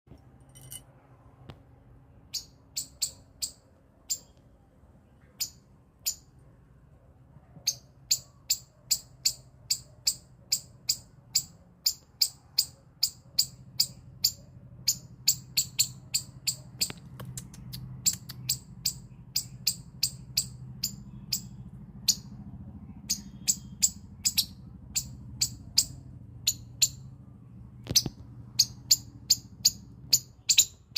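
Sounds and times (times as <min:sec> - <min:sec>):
squirrel chirping calls: 0:02.1 - 0:06.5, 0:07.6 - 0:30.9.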